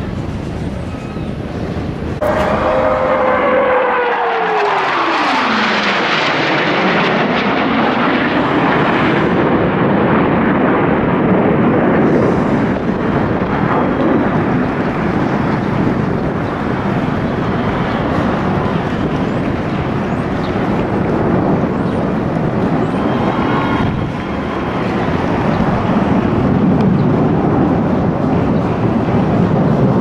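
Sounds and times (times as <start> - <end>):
aircraft engine passing low: 0.0 - 30.0.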